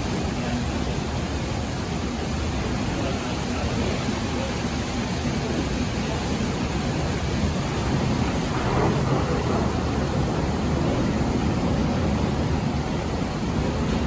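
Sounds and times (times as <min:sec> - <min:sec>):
heavy rain: 0:00.0 - 0:14.0
storm wind: 0:00.0 - 0:14.0.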